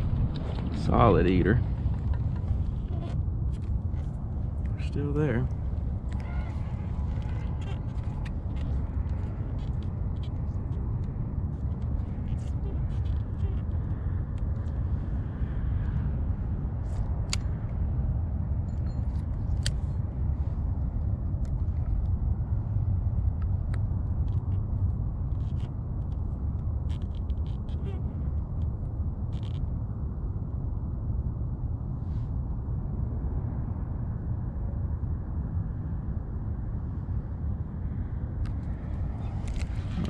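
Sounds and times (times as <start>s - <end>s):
wind buffeting the microphone: 0.0s - 40.0s.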